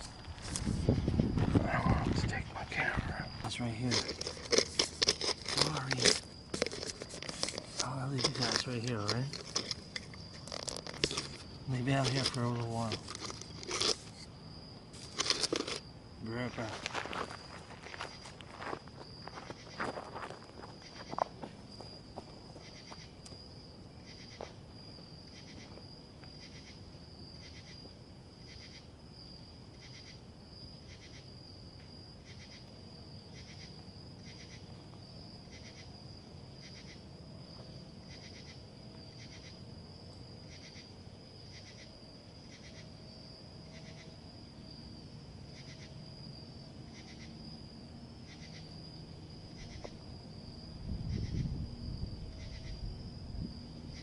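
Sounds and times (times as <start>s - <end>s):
night insects trilling: 0.0s - 54.0s.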